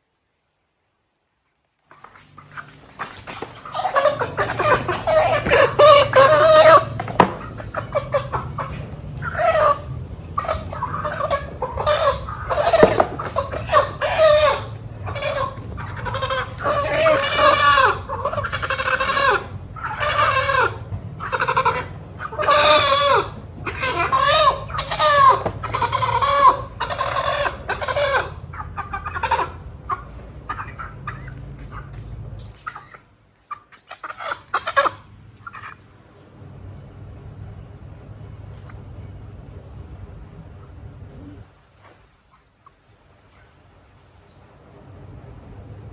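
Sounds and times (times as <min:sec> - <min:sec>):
faint low hum: 0:00.0 - 0:45.9
chickens clucking: 0:01.9 - 0:36.0, 0:38.5 - 0:38.9, 0:40.3 - 0:43.7.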